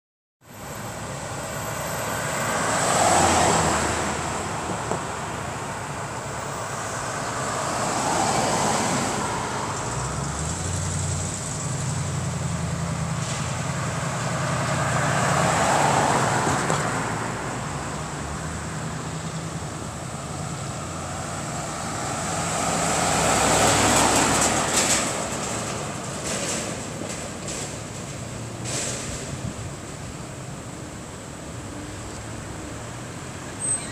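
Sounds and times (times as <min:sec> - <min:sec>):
vehicles driving past: 0:00.5 - 0:33.9.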